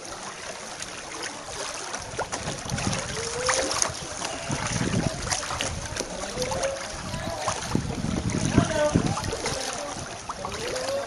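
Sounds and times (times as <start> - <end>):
water sloshing around wading legs: 0.0 - 11.0.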